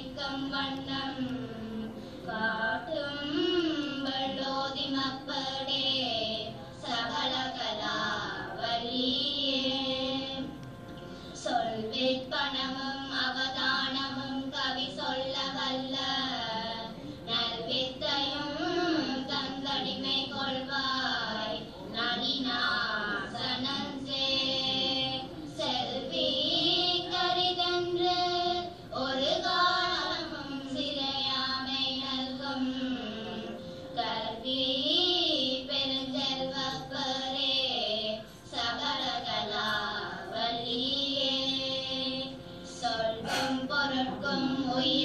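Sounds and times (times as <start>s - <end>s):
girls singing a hymn: 0.0s - 45.0s.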